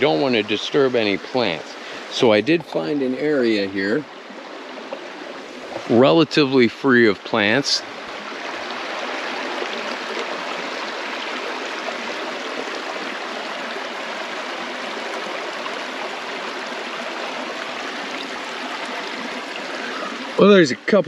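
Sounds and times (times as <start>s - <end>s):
river rushing over stones: 0.0s - 21.0s.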